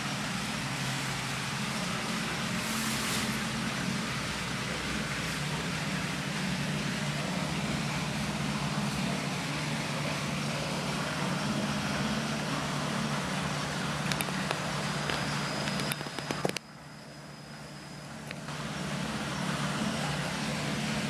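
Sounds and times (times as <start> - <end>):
machinery hum and hiss: 0.0 - 21.0.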